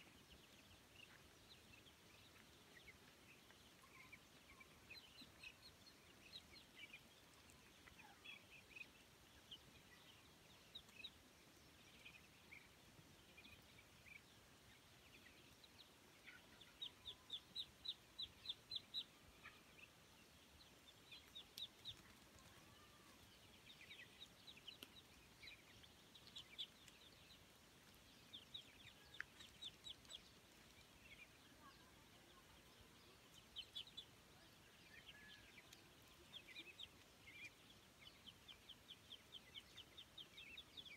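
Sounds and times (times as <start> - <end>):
ducklings peeping: 0.0 - 40.9.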